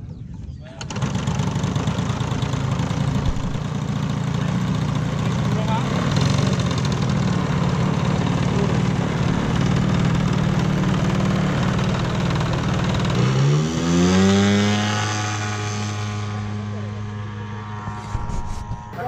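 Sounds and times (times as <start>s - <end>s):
model airplane engine: 0.0s - 19.0s.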